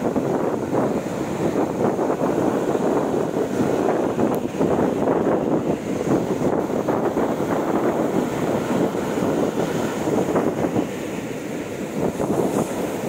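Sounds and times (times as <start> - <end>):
surf breaking onto shore: 0.0 - 13.0.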